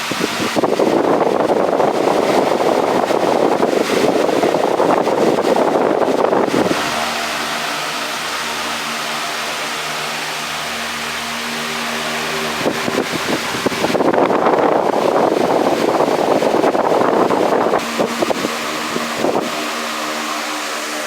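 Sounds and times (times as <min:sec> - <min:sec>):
fan air rushing: 0:00.0 - 0:21.0
fan clicking and rattling: 0:00.0 - 0:21.0
fan motor humming: 0:00.0 - 0:21.0.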